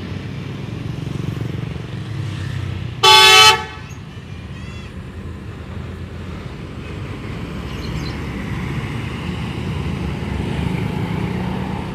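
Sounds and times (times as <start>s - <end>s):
road noise: 0.0s - 11.9s
vehicle engine rumbling: 0.0s - 11.9s.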